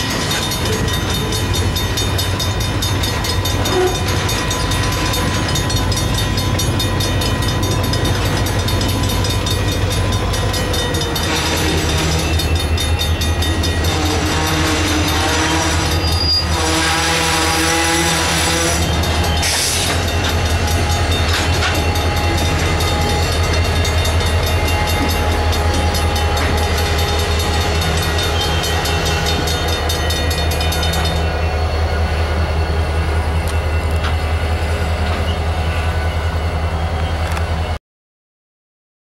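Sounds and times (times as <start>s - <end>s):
crossing bells ringing: 0.0s - 37.8s
diesel locomotive engine droning: 0.0s - 37.8s
train rolling: 0.0s - 37.8s.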